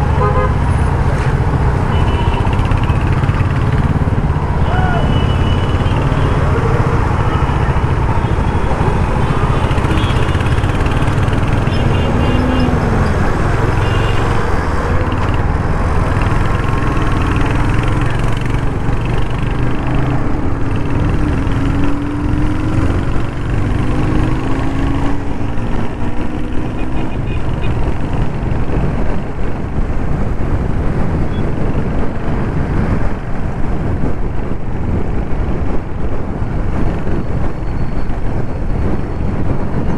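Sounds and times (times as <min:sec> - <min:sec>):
motorcycle engine running: 0:00.0 - 0:33.1
traffic noise: 0:00.0 - 0:39.9.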